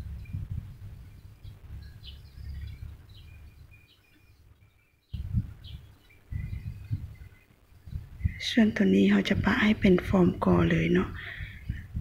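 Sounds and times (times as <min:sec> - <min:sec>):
birds chirping: 0:00.0 - 0:12.0
low rumble on microphone: 0:00.0 - 0:12.0.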